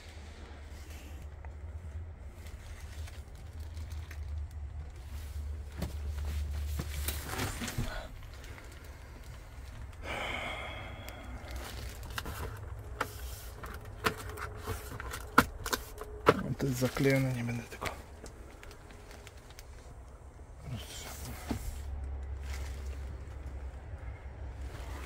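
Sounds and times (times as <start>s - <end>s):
rustling and handling noise: 0.0s - 25.0s.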